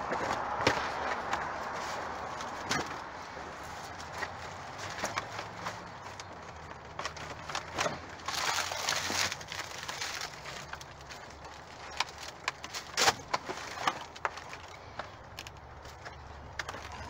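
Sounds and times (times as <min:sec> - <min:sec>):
boxes rustling and scraping: 0:00.0 - 0:17.0.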